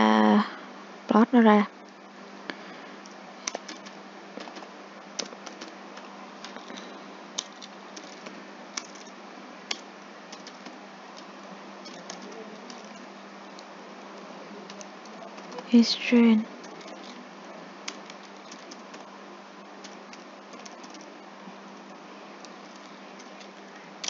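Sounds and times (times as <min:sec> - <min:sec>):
background hiss and hum: 0:00.0 - 0:24.0.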